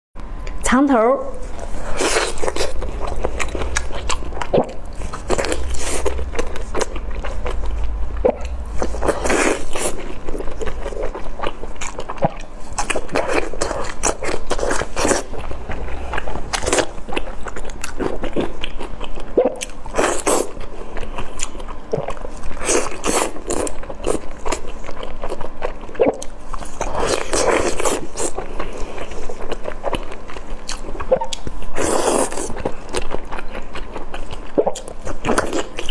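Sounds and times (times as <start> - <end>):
biting and chewing: 1.6 - 35.9.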